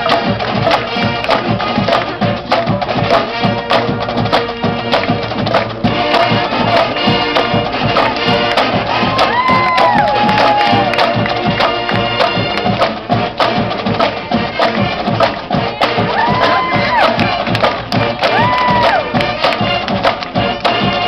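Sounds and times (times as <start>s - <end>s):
drum strokes: 0.0s - 21.0s
marching band playing: 0.0s - 21.0s.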